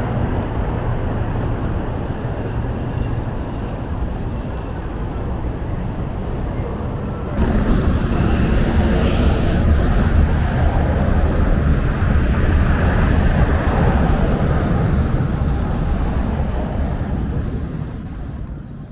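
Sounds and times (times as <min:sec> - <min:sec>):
cars and truck passing: 0:00.0 - 0:18.9.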